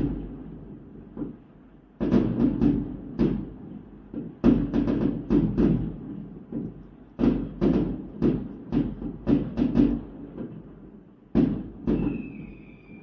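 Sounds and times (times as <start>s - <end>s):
fireworks banging: 0.0s - 1.4s, 2.0s - 13.0s.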